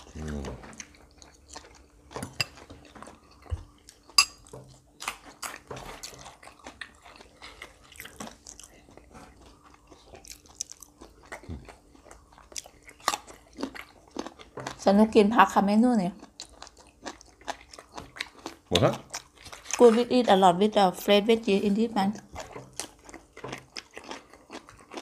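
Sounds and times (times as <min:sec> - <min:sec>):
chewing crisp vegetables: 0:00.0 - 0:25.0.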